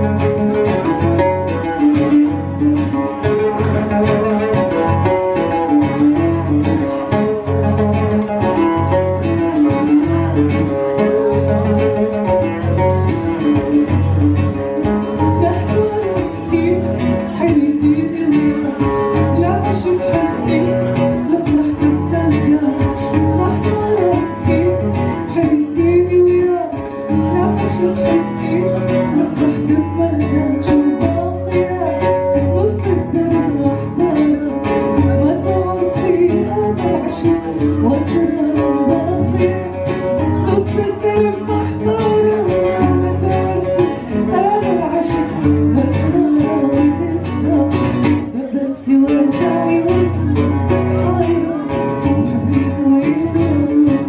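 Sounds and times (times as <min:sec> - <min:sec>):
bowed strings: 0:00.0 - 0:54.0
person singing: 0:00.0 - 0:54.0
plucked string instruments: 0:00.0 - 0:54.0.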